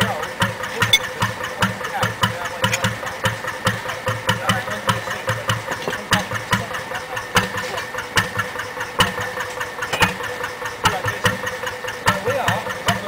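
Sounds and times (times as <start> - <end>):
boat engine idling with knocking: 0.0 - 13.0.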